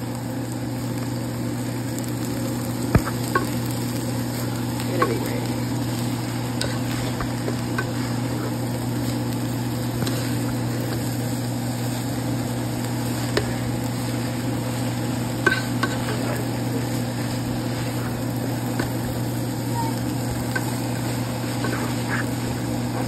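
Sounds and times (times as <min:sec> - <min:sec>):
food sizzling in a pan: 0:00.0 - 0:23.0
steady low hum: 0:00.0 - 0:23.0.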